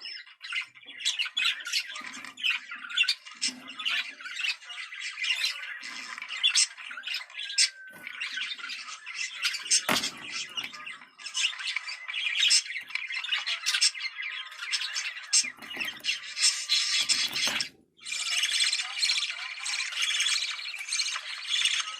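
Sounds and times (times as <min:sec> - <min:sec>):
budgerigars chattering and warbling: 0:00.0 - 0:21.9.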